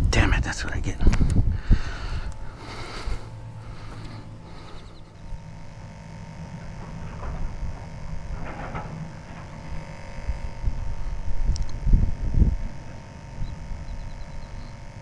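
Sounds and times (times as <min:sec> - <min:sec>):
low background hum: 0:00.0 - 0:15.0
wind buffeting microphone: 0:00.8 - 0:15.0.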